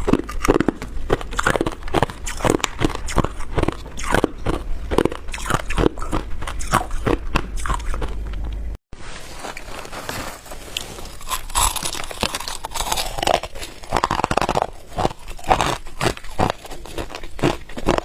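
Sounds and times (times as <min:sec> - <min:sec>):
ice being chewed: 0:00.0 - 0:08.2, 0:10.7 - 0:18.0.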